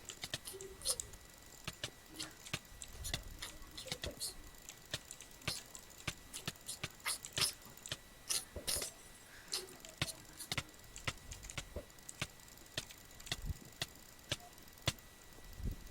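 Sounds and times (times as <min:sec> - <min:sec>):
sharp irregular clicks: 0:00.0 - 0:15.1.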